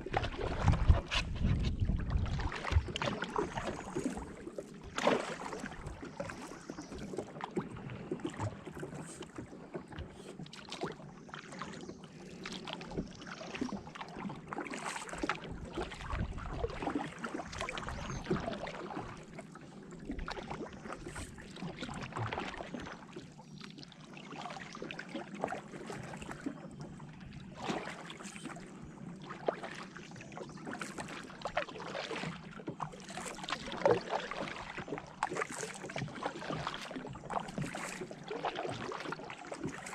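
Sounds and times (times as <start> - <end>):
paddle dipping and splashing: 0.0 - 39.9
water lapping against kayak hull: 0.0 - 39.9.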